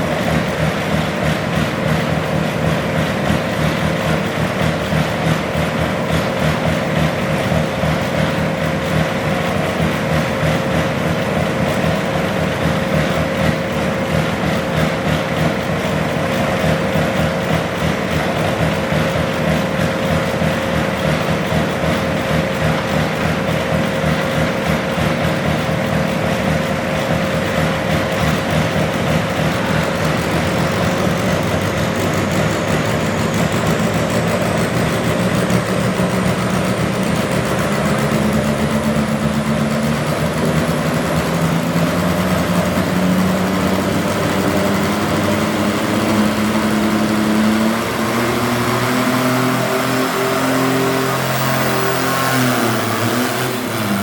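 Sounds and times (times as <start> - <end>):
tractor engine running loudly: 0.0 - 54.0.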